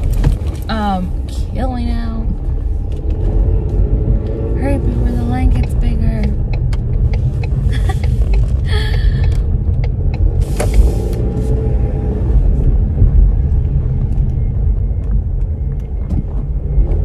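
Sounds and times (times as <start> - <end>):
car wind and road noise: 0.0 - 17.0
wind buffeting microphone: 0.0 - 17.0.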